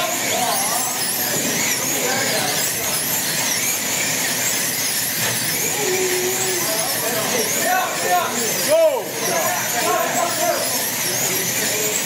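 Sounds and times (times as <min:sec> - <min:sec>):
slot car motors whining: 0:00.0 - 0:12.0.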